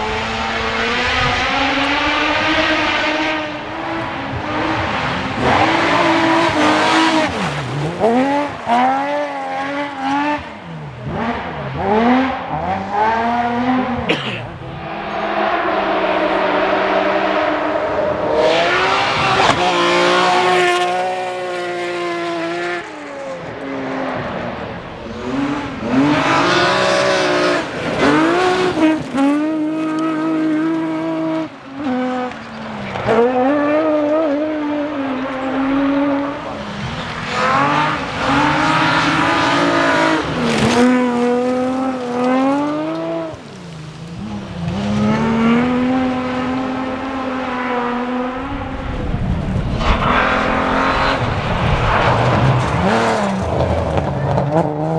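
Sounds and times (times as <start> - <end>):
rally car engines revving: 0.0 - 54.9.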